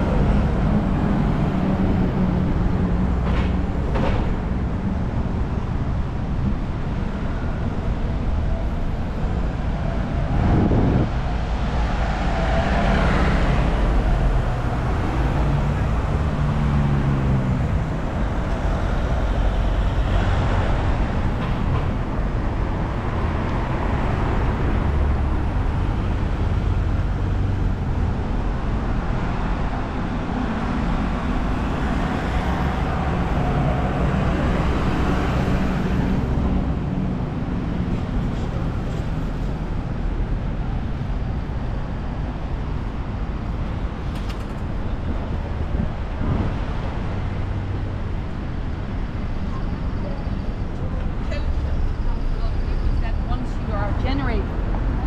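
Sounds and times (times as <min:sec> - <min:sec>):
city traffic: 0:00.0 - 0:55.0
heavy engine drone: 0:00.0 - 0:55.0.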